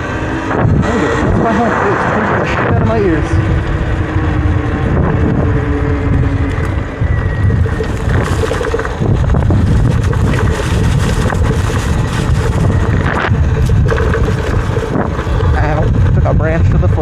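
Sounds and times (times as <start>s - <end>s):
faint electric motor whine: 0.0s - 16.2s
wind buffeting microphone: 0.0s - 17.0s
knocks and rattles: 2.8s - 17.0s.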